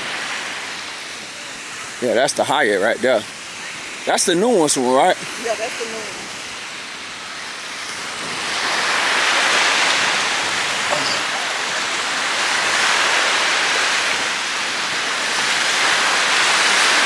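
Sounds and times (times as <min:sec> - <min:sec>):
ocean surf rushing on beach: 0:00.0 - 0:17.0.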